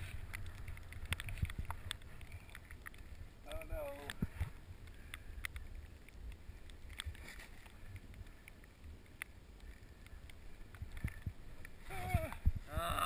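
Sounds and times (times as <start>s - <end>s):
light clicks and taps: 0.0s - 12.6s
faint hiss of snow: 0.0s - 13.0s.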